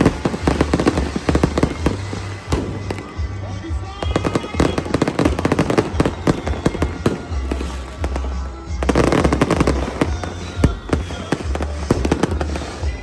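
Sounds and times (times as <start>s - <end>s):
fireworks bangs and crackles: 0.0s - 13.0s
music: 0.0s - 13.0s.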